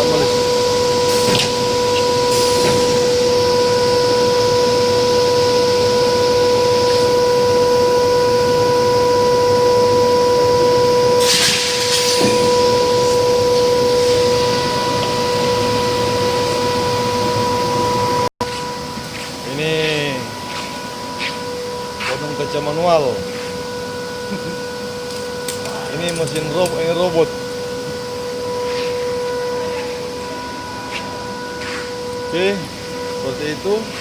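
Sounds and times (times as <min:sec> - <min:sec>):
glass cutting machine humming: 0:00.0 - 0:34.0.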